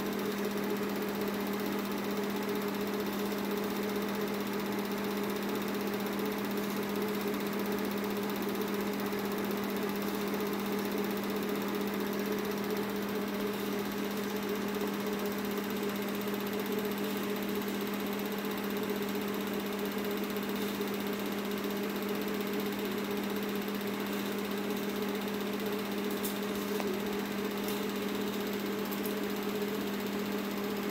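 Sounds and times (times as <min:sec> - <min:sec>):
film projector motor whirring: 0:00.0 - 0:30.9.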